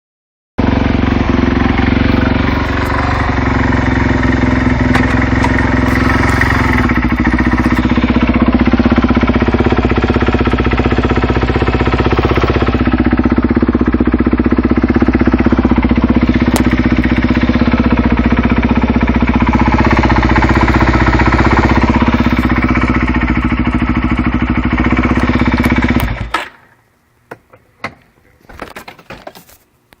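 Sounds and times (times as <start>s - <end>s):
engine knocking: 0.6s - 26.3s
motorcycle engine idling: 0.6s - 26.7s.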